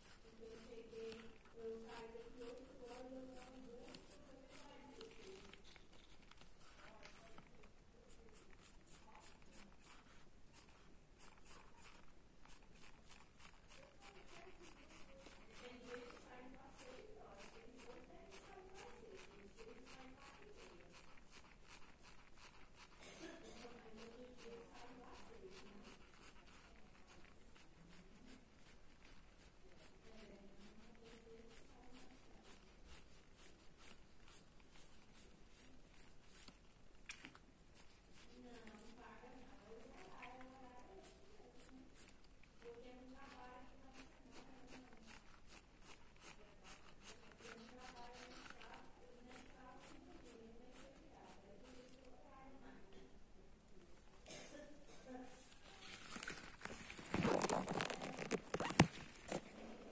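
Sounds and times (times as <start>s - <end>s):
pencil scratching on paper: 0.0s - 52.2s, 55.4s - 59.9s.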